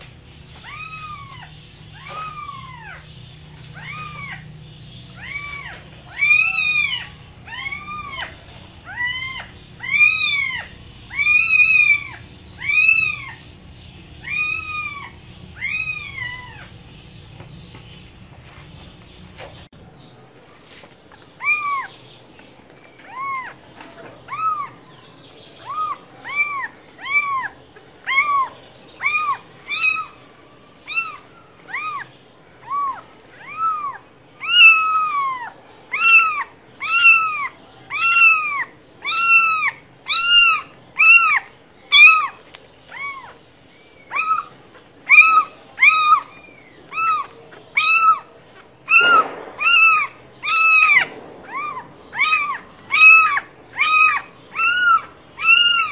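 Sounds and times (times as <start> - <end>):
cat meowing: 0.6 - 3.1, 3.7 - 4.5, 5.2 - 13.4, 14.2 - 16.8, 23.0 - 24.8, 25.6 - 30.1, 30.8 - 55.9.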